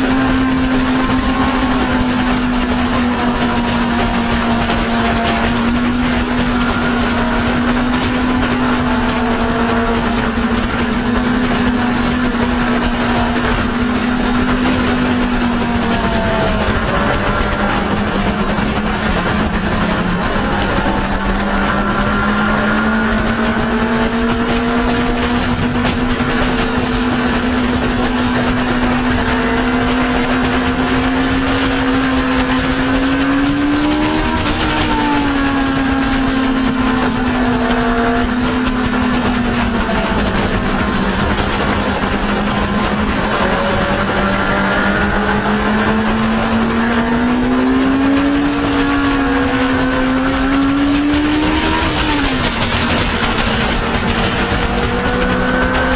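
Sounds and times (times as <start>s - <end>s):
motorcycle engine cruising: 0.0s - 55.9s
wind and road noise: 0.0s - 55.9s.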